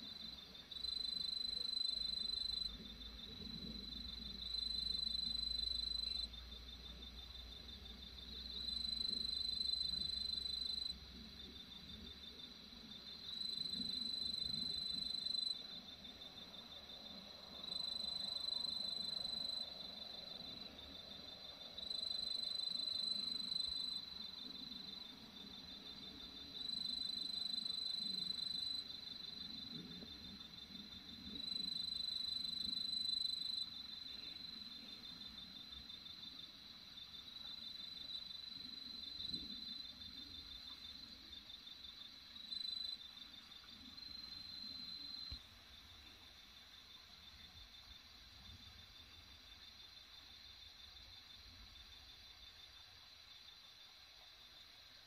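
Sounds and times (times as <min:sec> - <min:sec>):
crickets trilling: 0:00.0 - 0:53.8.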